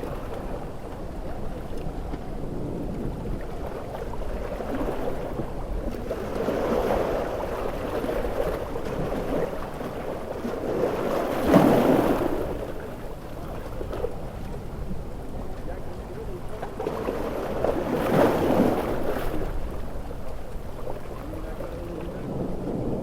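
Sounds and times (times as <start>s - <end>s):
heavy ocean surf: 0.0s - 23.0s.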